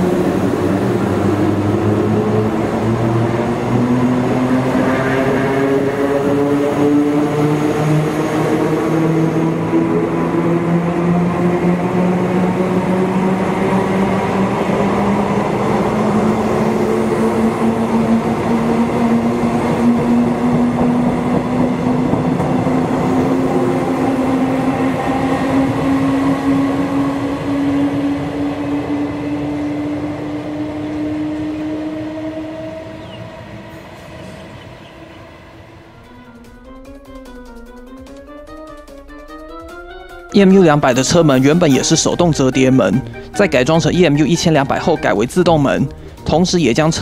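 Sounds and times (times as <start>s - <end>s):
electric train motor whine rising: 0.0s - 39.7s
train running noise: 0.0s - 47.0s.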